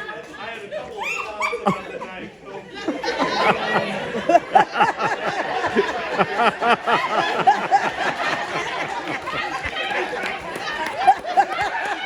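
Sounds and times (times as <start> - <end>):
overlapping voices: 0.0 - 12.0
people laughing: 0.0 - 12.0.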